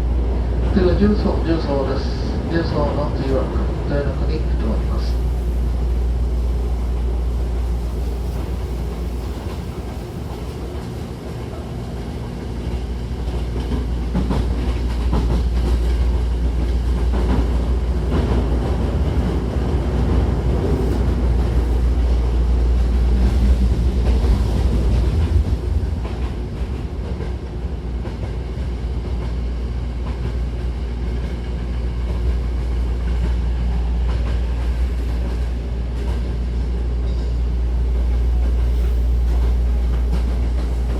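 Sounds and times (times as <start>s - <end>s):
train wheels rumbling: 0.0s - 40.9s
clickety-clack over rail joints: 7.8s - 40.9s.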